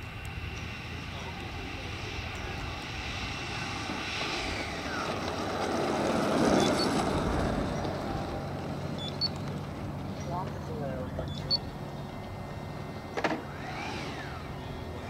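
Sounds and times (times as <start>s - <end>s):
electric ducted fan whine: 0.0s - 15.0s.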